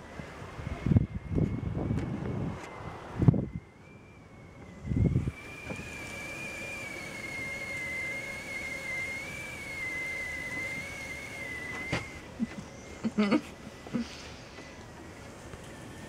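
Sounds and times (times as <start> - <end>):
kettle whistling: 0.7 - 16.0.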